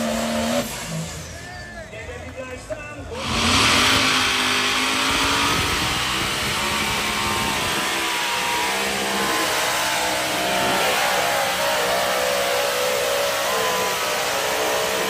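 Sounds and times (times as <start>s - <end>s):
tractor engine at high revs: 0.0s - 1.4s, 3.1s - 15.0s.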